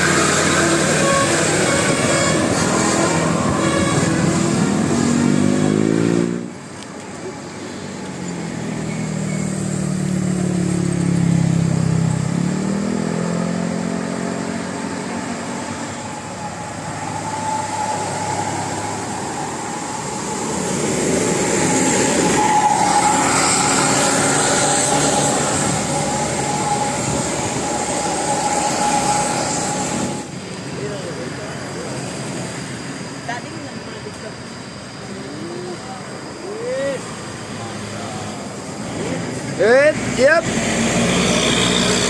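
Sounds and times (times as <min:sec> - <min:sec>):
large vehicles passing: 0:00.0 - 0:42.0
steady traffic noise: 0:00.0 - 0:42.0.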